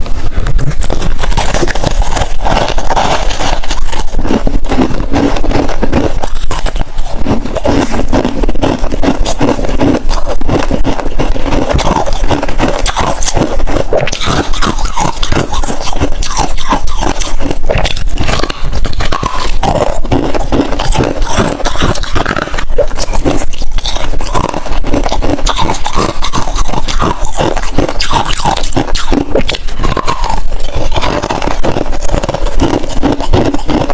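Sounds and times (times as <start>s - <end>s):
chewing crunching ice: 0.0s - 33.9s.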